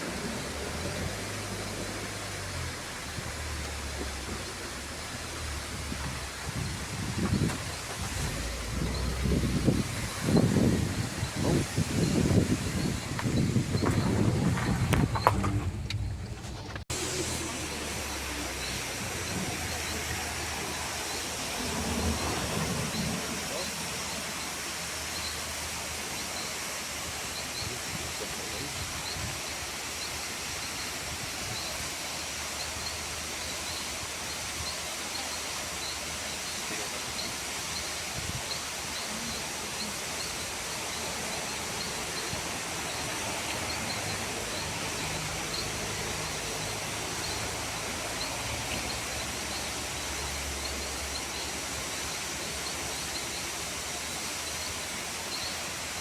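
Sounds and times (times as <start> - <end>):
waterfall rushing: 0.0 - 15.9, 16.9 - 56.0.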